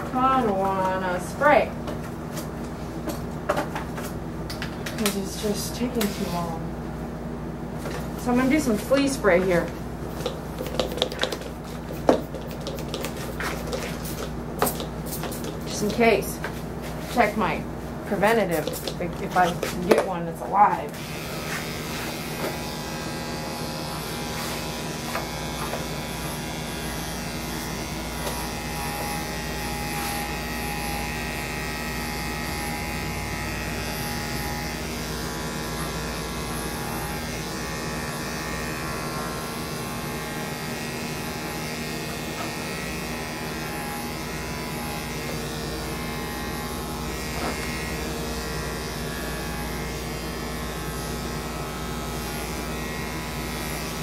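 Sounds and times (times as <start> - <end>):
electric clippers buzzing: 0.0 - 6.6, 7.8 - 16.6, 17.2 - 54.0.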